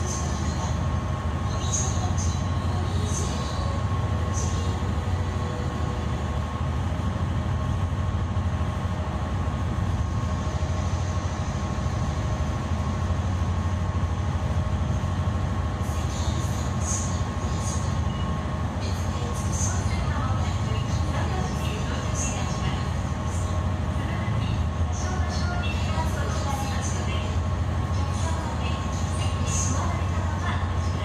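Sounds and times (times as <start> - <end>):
ship engines droning: 0.0 - 31.0.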